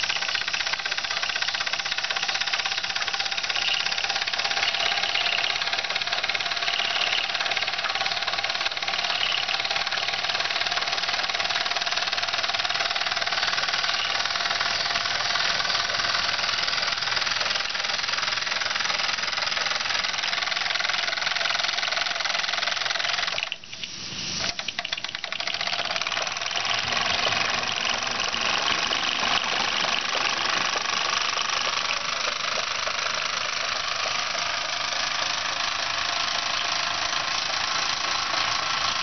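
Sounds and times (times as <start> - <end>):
toy steam engine ticking clatter: 0.0 - 39.0
toy windmill pump working: 0.0 - 39.0.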